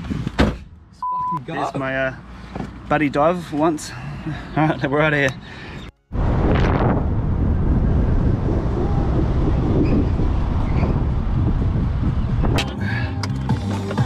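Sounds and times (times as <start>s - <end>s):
vehicle road noise rumble: 0.0s - 14.0s.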